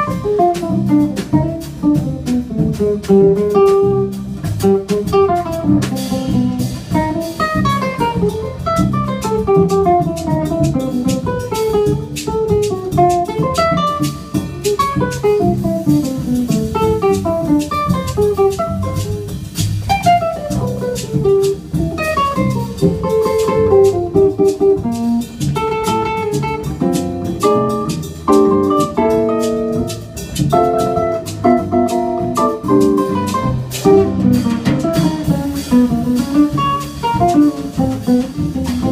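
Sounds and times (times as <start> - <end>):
classical guitar: 0.0 - 38.9
drum kit groove: 0.0 - 38.9.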